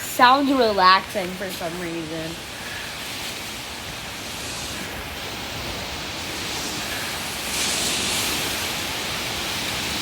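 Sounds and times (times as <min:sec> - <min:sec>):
hurricane wind rushing: 0:00.0 - 0:10.0.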